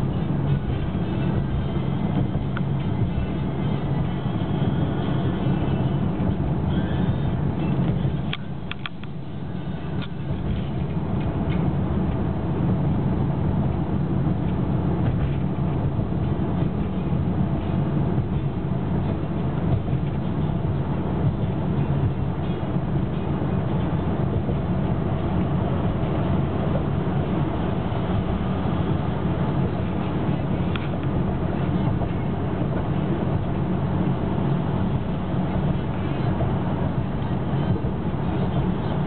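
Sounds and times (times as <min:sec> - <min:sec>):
car cabin road rumble: 0:00.0 - 0:39.0.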